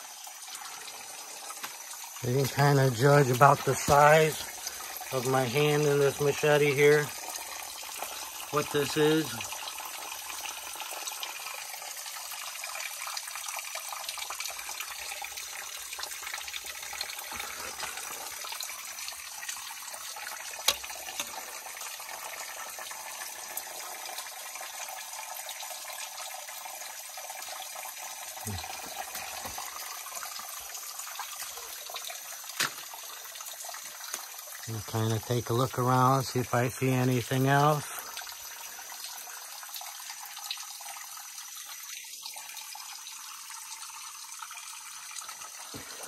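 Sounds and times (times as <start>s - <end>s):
water trickling and dripping: 0.0s - 46.0s.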